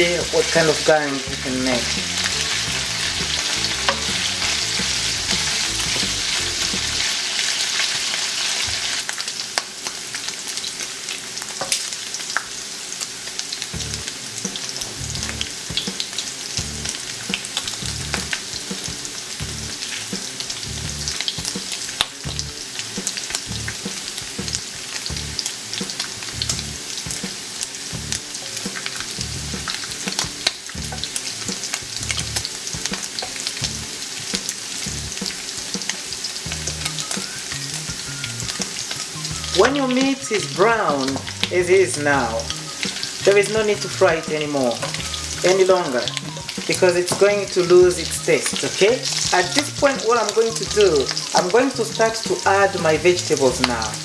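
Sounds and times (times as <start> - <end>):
meat sizzling in a pan: 0.0 - 54.0.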